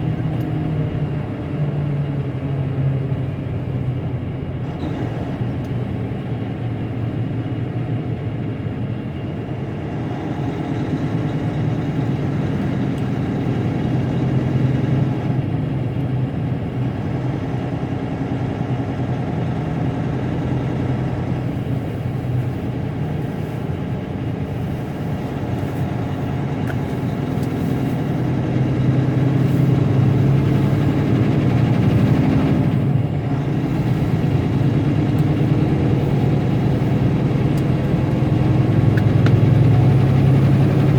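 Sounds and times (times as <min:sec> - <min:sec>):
diesel engine running: 0:00.0 - 0:40.9
road noise: 0:00.0 - 0:40.9.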